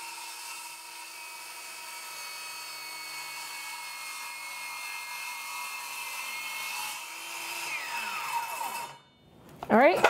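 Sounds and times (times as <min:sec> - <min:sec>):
circular saw cutting wood: 0:00.0 - 0:09.1.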